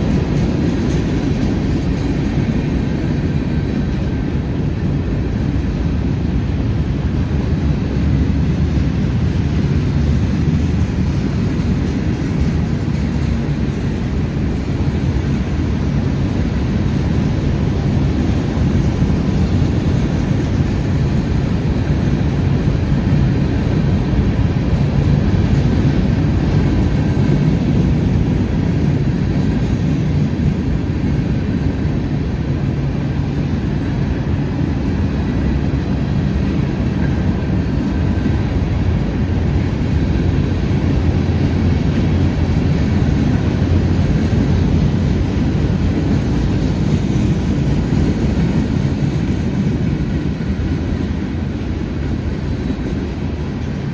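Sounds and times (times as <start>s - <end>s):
freight train cars rumbling past: 0.0s - 53.9s.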